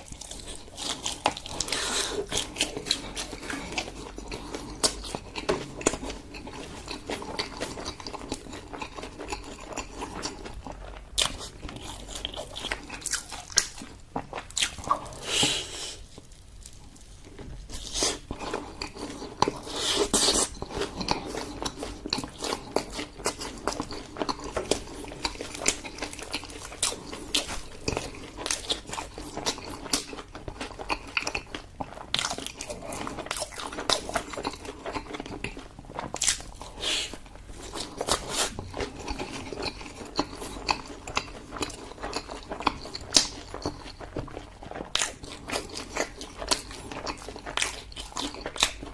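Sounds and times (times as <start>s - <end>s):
biting and chewing: 0.0s - 48.9s.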